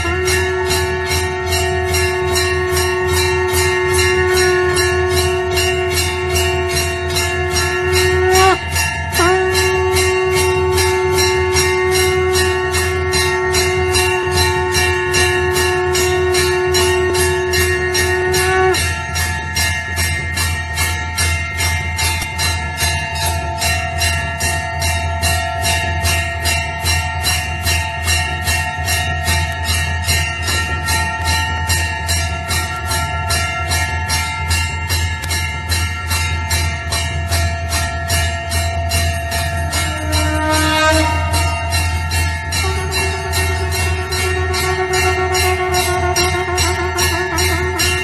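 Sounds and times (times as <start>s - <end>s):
temple bells ringing: 0.0s - 48.0s.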